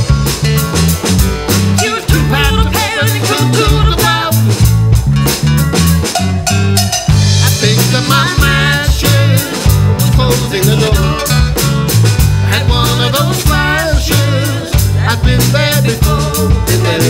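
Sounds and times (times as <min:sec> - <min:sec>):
folk-rock band playing: 0:00.0 - 0:17.0.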